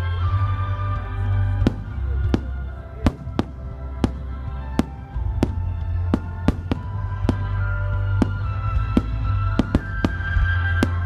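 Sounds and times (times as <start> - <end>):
fireworks bursting: 1.6 - 11.0.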